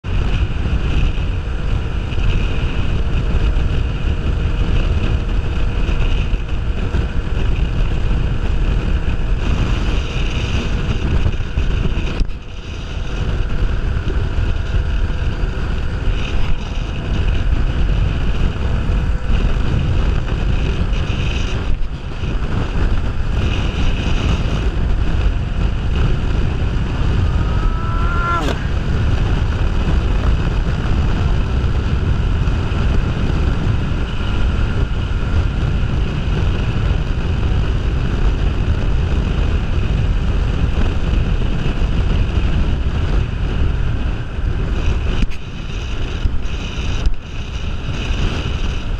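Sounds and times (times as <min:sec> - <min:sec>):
motorcycle engine running: 0:00.0 - 0:48.9
wind rush on microphone: 0:00.0 - 0:48.9.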